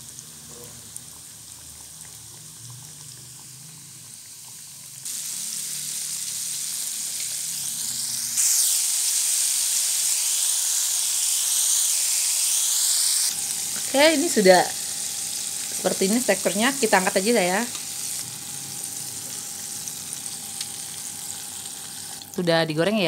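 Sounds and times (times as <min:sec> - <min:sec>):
chicken sizzling in hot oil: 0:00.0 - 0:22.4.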